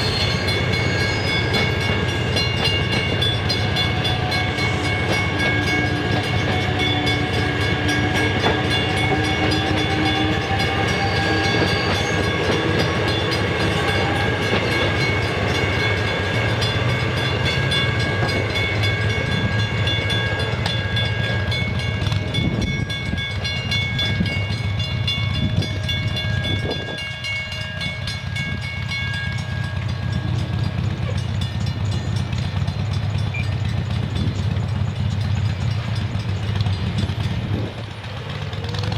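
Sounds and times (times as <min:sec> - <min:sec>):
train rumbling past: 0:00.0 - 0:38.9.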